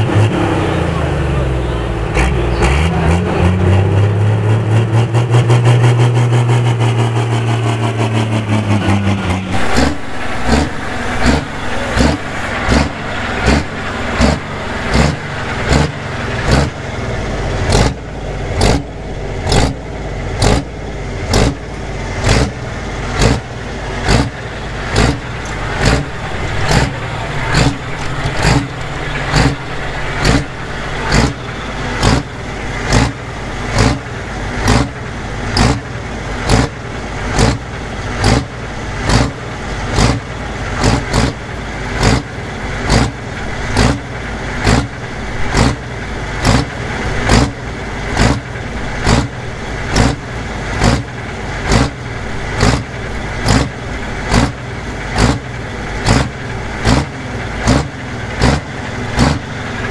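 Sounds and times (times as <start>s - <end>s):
diesel engine revving in bursts: 0.0s - 59.9s
diesel engine running hard: 0.0s - 59.9s.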